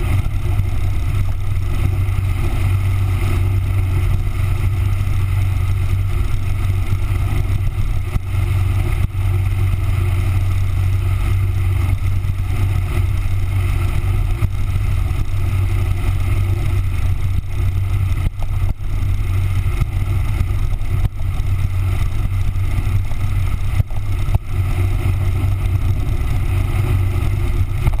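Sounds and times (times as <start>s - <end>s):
motorcycle engine cruising: 0.0s - 28.0s
wind and road noise: 0.0s - 28.0s.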